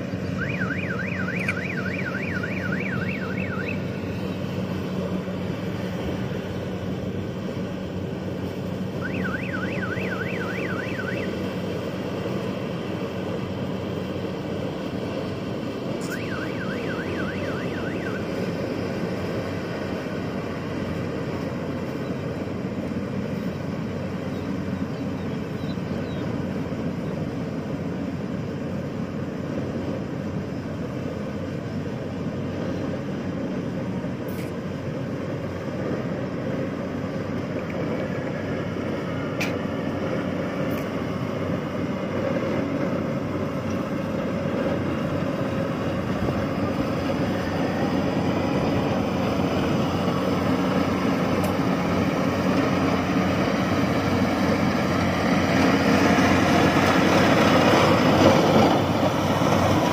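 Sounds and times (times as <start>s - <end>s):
combine harvester engine drone: 0.0s - 59.9s.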